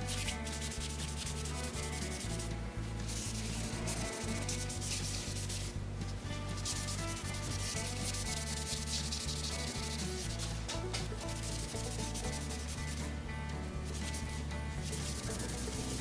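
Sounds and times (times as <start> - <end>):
cloth rag rubbing wooden boards: 0.0 - 13.2, 13.8 - 16.0
background music with bass line: 0.0 - 16.0.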